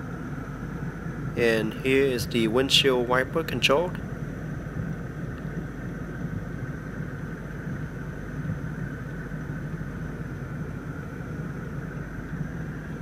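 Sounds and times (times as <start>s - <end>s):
climate-control fan hum: 0.0s - 13.0s.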